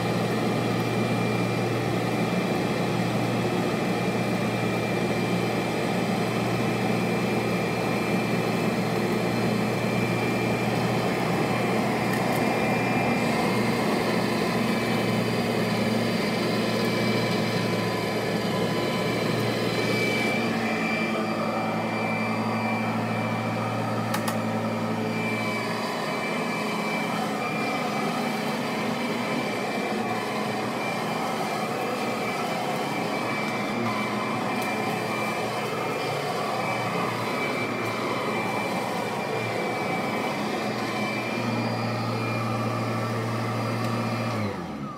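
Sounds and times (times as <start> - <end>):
vacuum cleaner running on carpet: 0.0 - 44.9.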